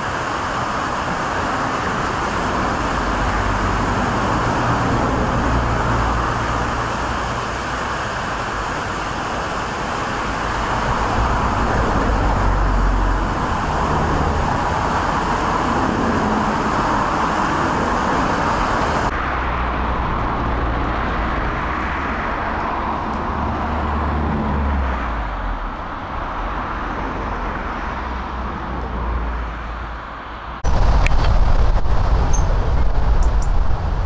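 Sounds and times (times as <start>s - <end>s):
road vehicle rumble and hiss: 0.0s - 34.0s.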